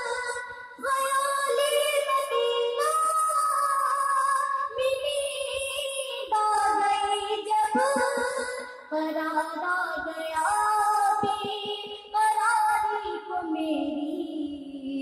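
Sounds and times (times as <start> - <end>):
girl singing into microphone: 0.0 - 15.0.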